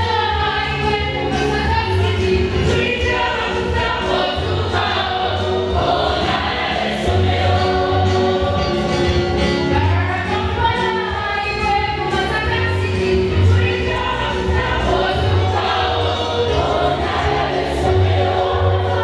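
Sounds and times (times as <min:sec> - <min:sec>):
choir singing gospel: 0:00.0 - 0:19.0.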